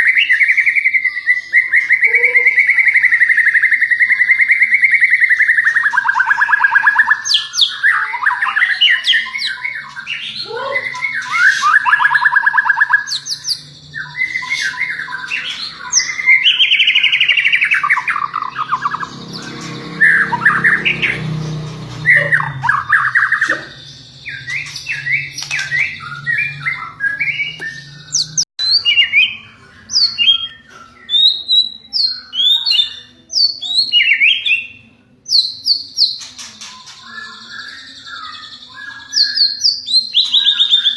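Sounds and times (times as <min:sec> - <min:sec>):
songbird trills and whistles: 0:00.0 - 0:21.2, 0:21.9 - 0:40.9
bird high chirps: 0:00.0 - 0:40.9.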